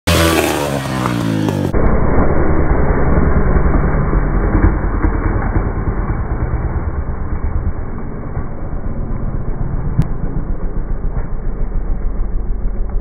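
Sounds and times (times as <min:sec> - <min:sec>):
dirt bike engine revving: 0:00.1 - 0:12.3.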